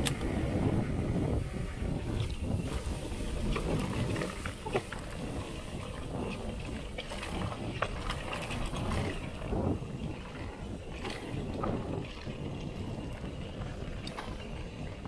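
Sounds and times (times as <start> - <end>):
bike clicks and rattles: 0.0 - 15.0
wind on microphone: 0.0 - 15.0
tyres rolling on dirt: 2.6 - 15.0.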